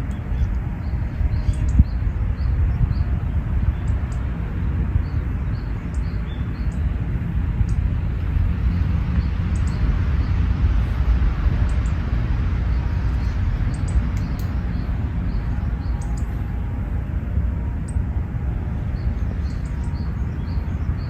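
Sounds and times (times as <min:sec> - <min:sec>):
small birds chirping: 0:00.0 - 0:16.6, 0:18.7 - 0:21.0
low rumble: 0:00.0 - 0:21.0.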